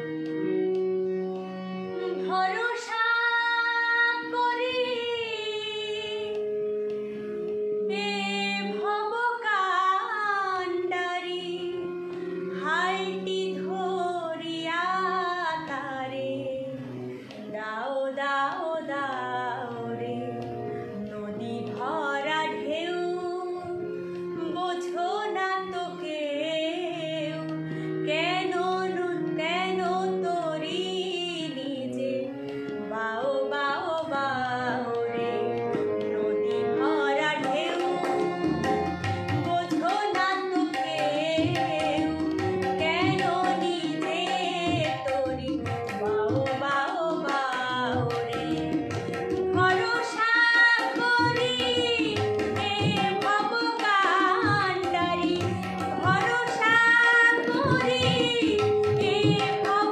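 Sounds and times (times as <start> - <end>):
woman singing: 2.0 - 6.7, 7.8 - 59.9.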